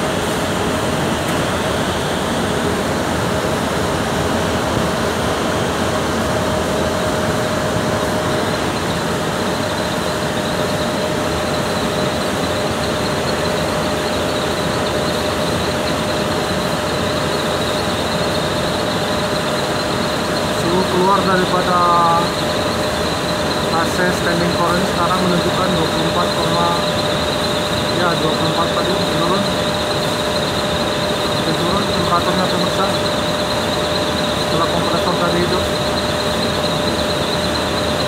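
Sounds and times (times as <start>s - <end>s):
air conditioner blower rushing: 0.0s - 38.0s.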